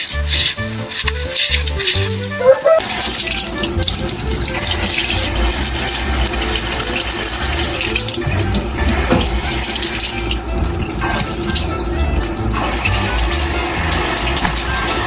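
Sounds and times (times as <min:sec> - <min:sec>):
music: 0:00.0 - 0:15.0
running water rushing: 0:00.0 - 0:15.0.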